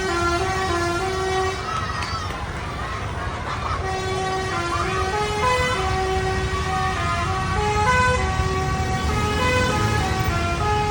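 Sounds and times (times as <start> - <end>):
bus horn playing melody: 0.0 - 1.7, 3.8 - 10.9.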